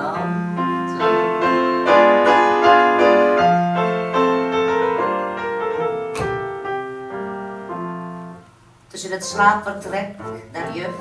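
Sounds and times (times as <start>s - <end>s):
solo piano melody: 0.0s - 11.0s.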